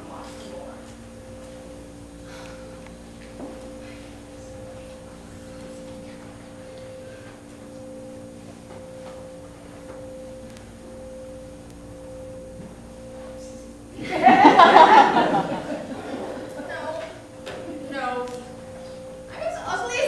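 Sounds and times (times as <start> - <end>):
hum of held low tones: 0.0 - 20.0.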